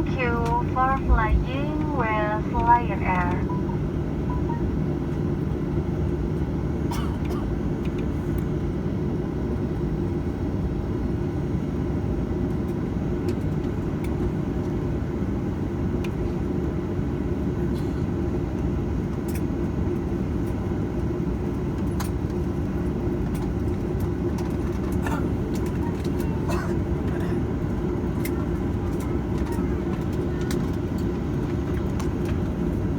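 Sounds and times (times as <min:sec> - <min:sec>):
aircraft cabin rumble: 0:00.0 - 0:32.9.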